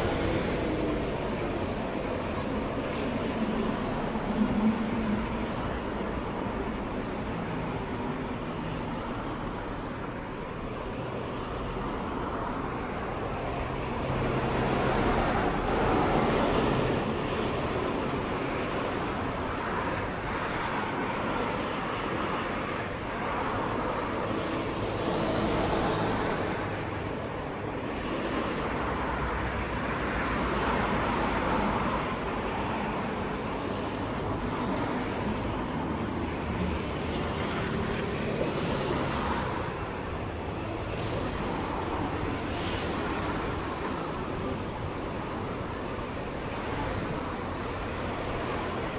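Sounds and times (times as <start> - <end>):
cars passing: 0.0 - 48.9
low traffic hum: 0.0 - 48.9.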